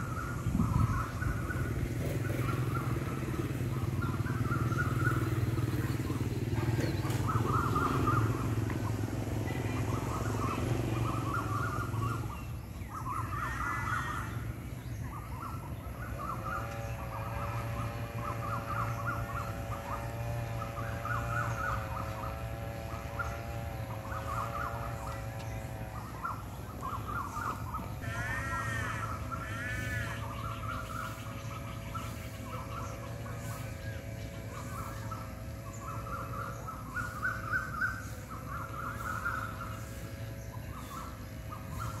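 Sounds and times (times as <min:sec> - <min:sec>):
birds chirping: 0:00.0 - 0:42.0
droning tone: 0:03.6 - 0:42.0.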